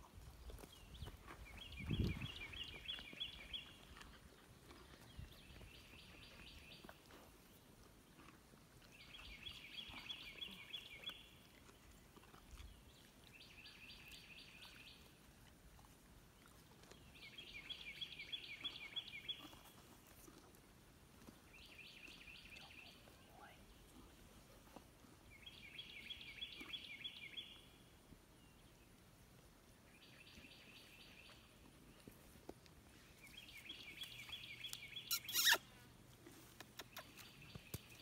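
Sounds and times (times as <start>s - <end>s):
songbird singing: 0.4s - 11.8s, 12.4s - 15.1s, 16.4s - 19.8s, 21.4s - 24.3s, 25.2s - 29.0s, 29.8s - 35.8s, 36.6s - 38.0s.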